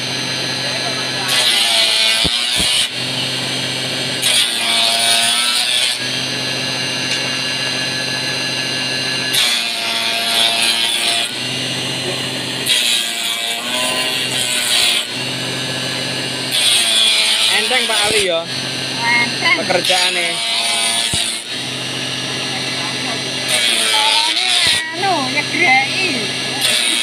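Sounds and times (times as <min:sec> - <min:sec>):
harsh wood cutting noise: 0:00.0 - 0:27.0
machine motor humming: 0:00.0 - 0:27.0.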